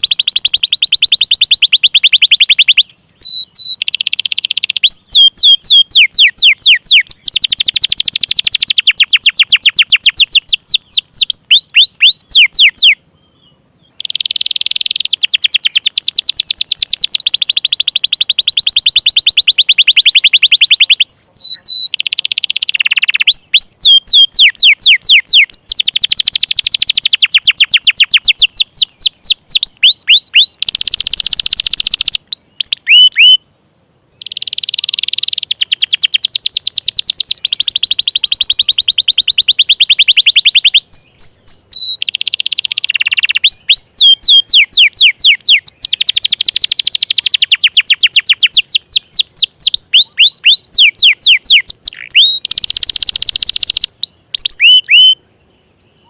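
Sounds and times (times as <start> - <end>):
canary singing: 0.0 - 33.4, 34.1 - 55.2.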